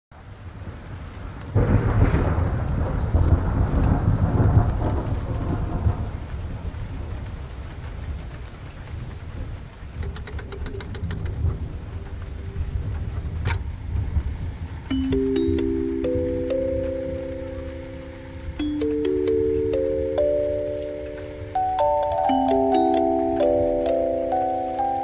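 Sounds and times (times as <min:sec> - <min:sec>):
steady rain falling: 0:00.1 - 0:25.0
thunder rumbling: 0:00.6 - 0:10.1, 0:11.0 - 0:21.8.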